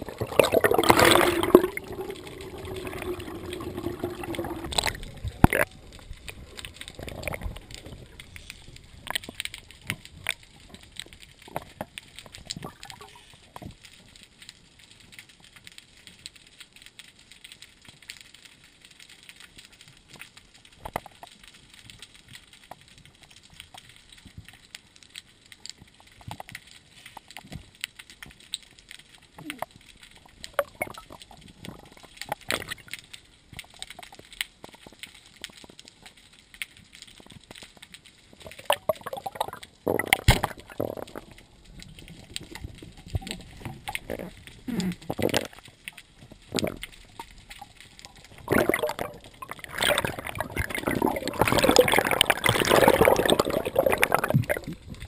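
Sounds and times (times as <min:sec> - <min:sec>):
underwater ambience: 0:00.0 - 0:55.0.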